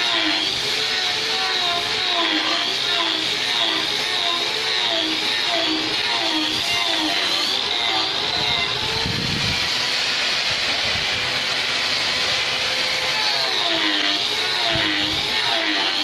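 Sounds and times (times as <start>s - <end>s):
sawmill machinery hum: 0.0s - 16.0s.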